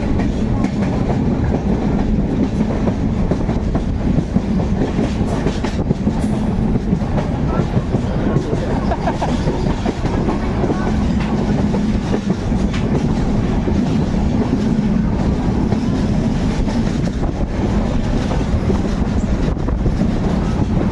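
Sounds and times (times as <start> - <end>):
train rumbling along track: 0.0 - 20.9.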